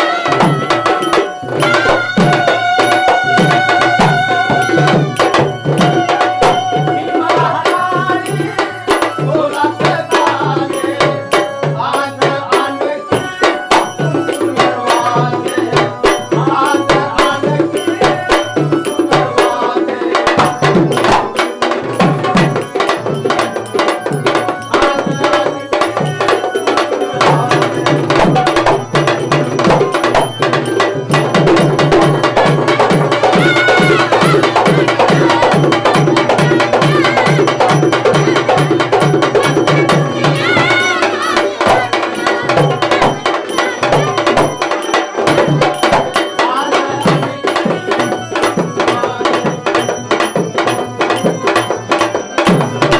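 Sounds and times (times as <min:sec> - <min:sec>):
folk melody line: 0:00.0 - 0:52.9
hand drum fast beat: 0:00.0 - 0:52.9
sharp percussion strokes: 0:00.0 - 0:52.9.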